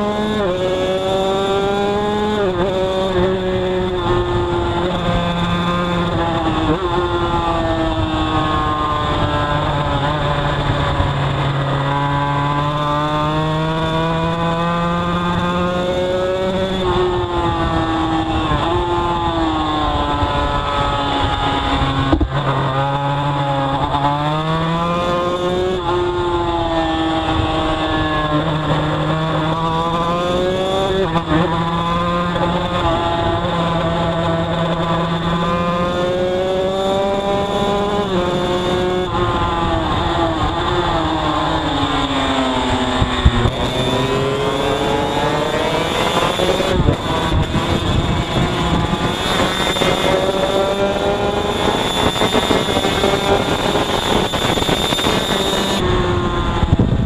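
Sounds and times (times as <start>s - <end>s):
racing motorcycle engine revving: 0.0s - 57.0s.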